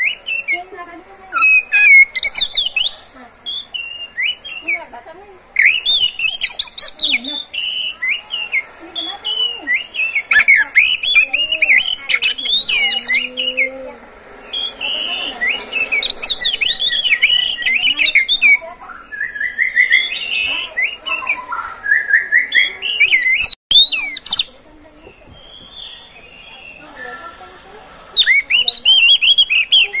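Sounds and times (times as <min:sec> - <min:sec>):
bird singing: 0:00.0 - 0:05.0, 0:05.6 - 0:30.0.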